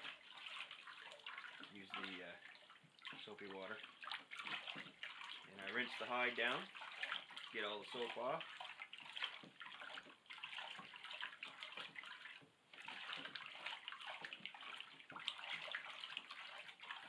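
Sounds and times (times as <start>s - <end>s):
stick stirring water: 0.0s - 17.0s
water sloshing in plastic tote: 0.0s - 17.0s.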